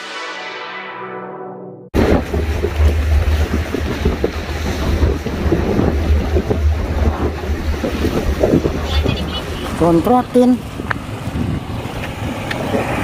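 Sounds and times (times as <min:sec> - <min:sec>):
sea waves washing: 0:02.0 - 0:13.0
wind buffeting microphone: 0:02.0 - 0:13.0.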